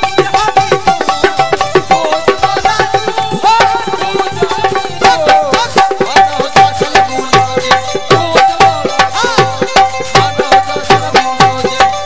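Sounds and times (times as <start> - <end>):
hand drums playing quick rhythm: 0.0 - 12.0.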